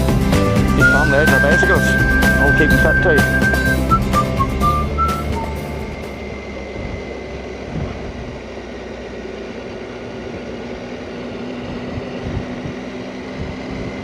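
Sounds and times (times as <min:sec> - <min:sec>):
motorcycle engine running: 0:00.0 - 0:14.0
wind and road noise: 0:01.0 - 0:14.0.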